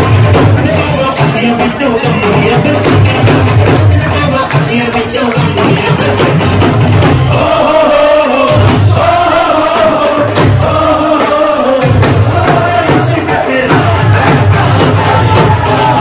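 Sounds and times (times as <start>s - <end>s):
dance song with sung vocal: 0.0s - 16.0s.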